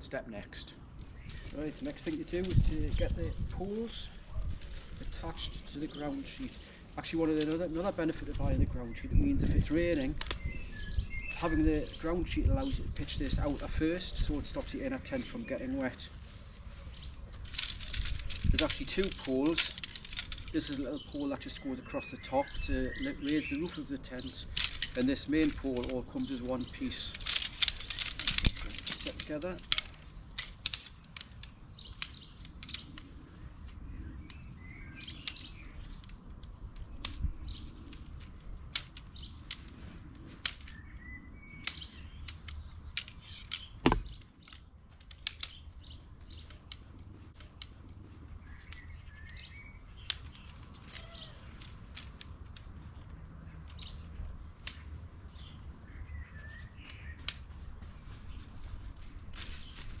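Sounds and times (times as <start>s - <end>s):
songbirds chirping: 0.0s - 60.0s
tent poles clicking together: 1.0s - 60.0s.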